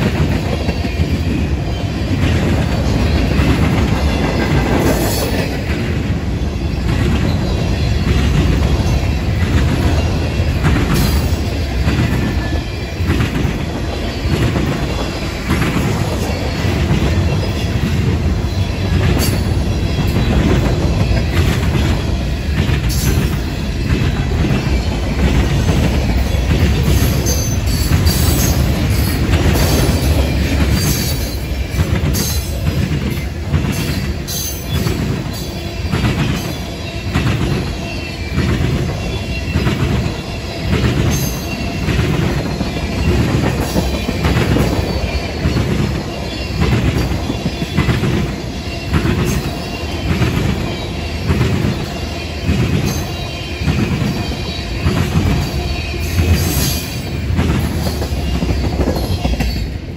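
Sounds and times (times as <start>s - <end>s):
deep train rumble: 0.0s - 59.9s
freight train wheels clicking: 0.0s - 59.9s.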